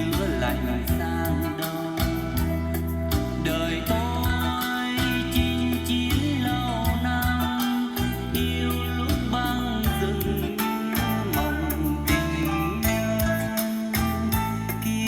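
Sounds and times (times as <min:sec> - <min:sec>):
music with guitar bass and beat: 0:00.0 - 0:15.0.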